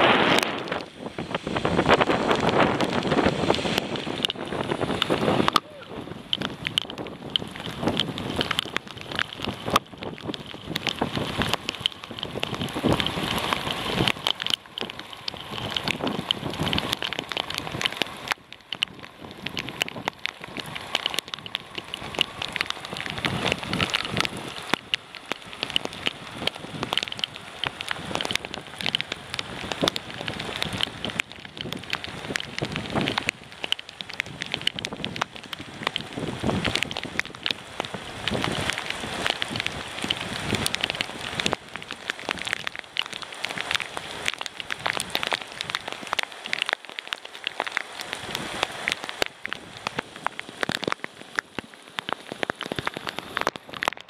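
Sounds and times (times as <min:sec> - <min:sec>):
heavy rain on boat deck: 0:00.0 - 0:54.0.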